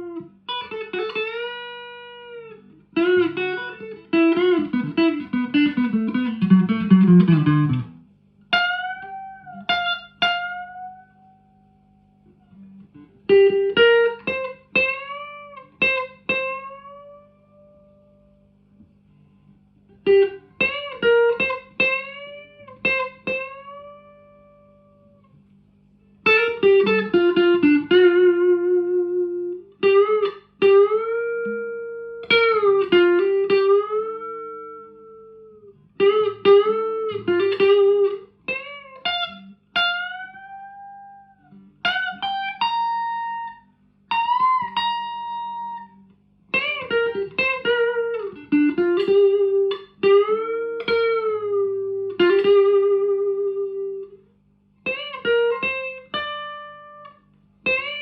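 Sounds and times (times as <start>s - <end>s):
electric guitar lead phrases: 0.0s - 58.0s
faint amp hum: 0.0s - 58.0s.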